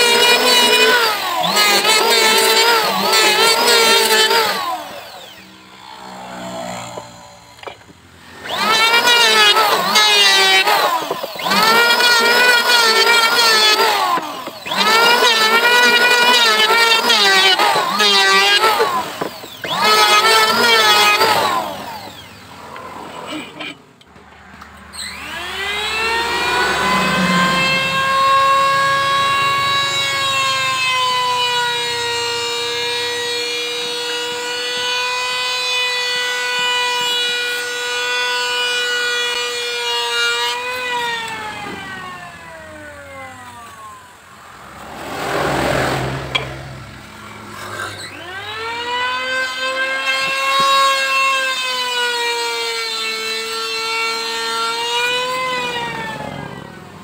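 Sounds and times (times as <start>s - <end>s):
electric motor whining: 0.0s - 23.8s, 24.4s - 57.0s.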